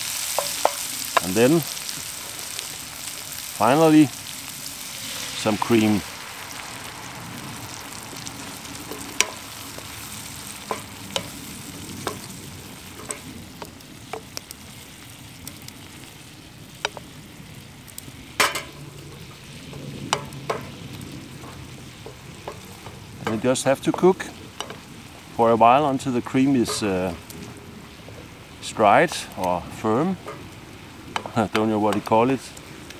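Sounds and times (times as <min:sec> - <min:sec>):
food sizzling in frying pan: 0:00.0 - 0:32.9.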